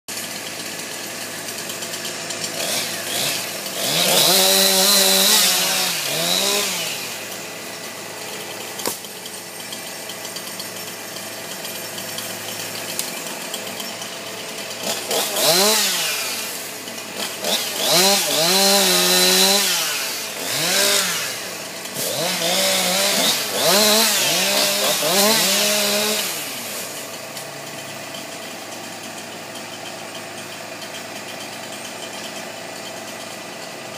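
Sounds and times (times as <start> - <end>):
chainsaw engine idling and revving: 0.1 - 33.9.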